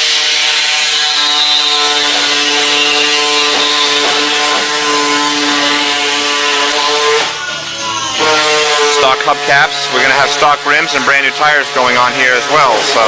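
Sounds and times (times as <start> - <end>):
mechanical buzzing drone: 0.0 - 13.0.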